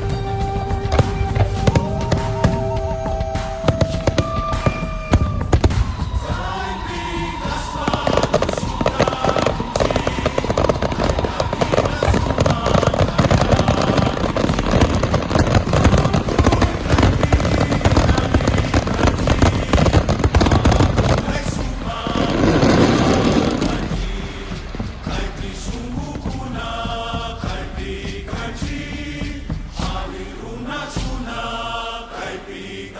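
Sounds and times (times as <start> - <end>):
fireworks crackling: 0.0 - 27.8.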